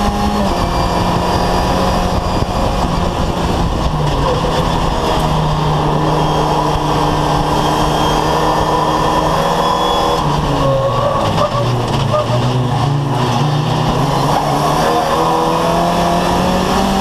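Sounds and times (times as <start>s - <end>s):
race car engine revving high: 0.0s - 17.0s
wind and road noise: 0.0s - 17.0s.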